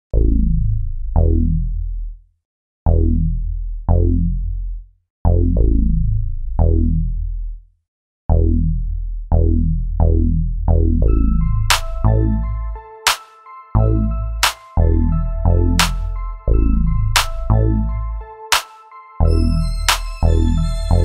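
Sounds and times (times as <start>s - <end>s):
deep electronic bass notes: 0.1s - 2.2s, 2.9s - 7.6s, 8.3s - 12.8s, 13.8s - 18.3s, 19.2s - 21.0s.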